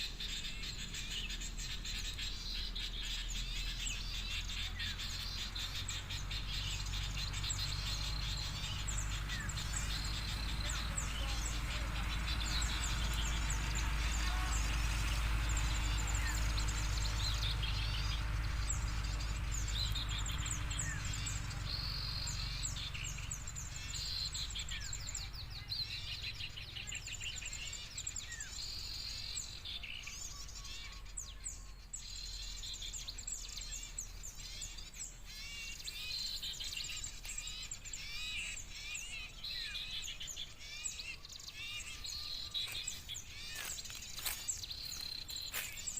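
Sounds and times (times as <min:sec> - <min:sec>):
bulbul calls: 0:00.0 - 0:45.9
small birds chirping: 0:00.0 - 0:45.9.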